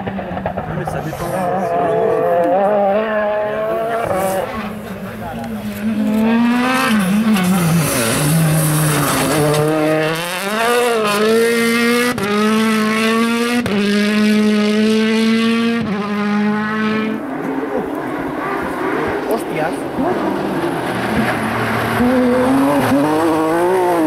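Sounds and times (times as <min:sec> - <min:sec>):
rally car engines revving hard: 0:00.0 - 0:24.0.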